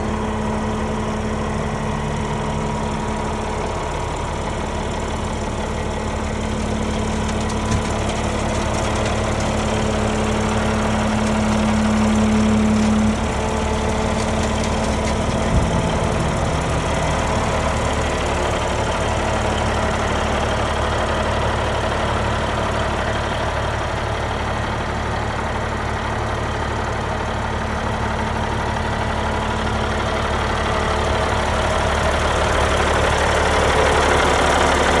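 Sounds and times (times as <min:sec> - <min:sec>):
diesel truck idling: 0:00.0 - 0:35.0.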